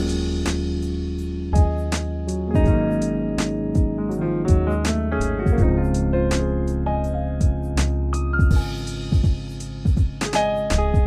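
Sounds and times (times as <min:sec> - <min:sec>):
background music with a beat: 0:00.0 - 0:11.0.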